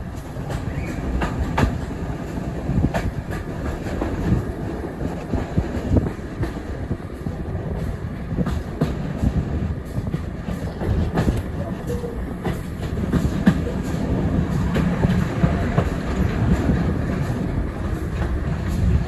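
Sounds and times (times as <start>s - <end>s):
train carriage rumbling: 0.0s - 19.0s.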